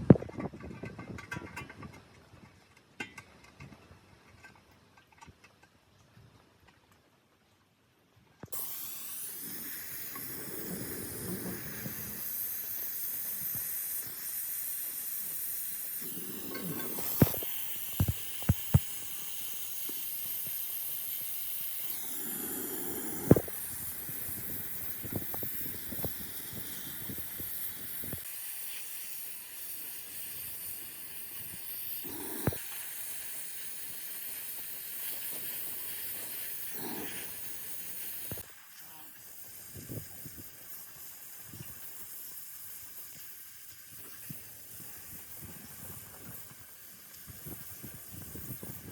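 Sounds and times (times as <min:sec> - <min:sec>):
steady hiss: 0:08.4 - 0:48.9.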